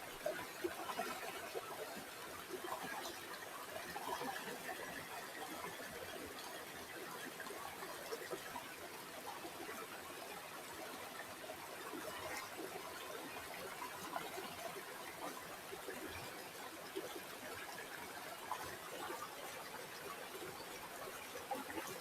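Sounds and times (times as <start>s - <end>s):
river water flowing: 0.0s - 22.0s
water trickling and gurgling: 0.0s - 22.0s.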